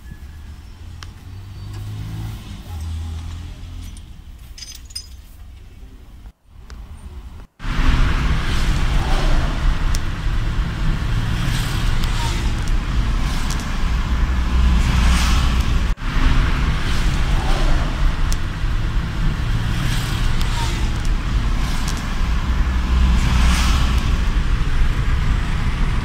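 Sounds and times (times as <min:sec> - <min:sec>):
car driving with road noise: 0:00.0 - 0:26.0.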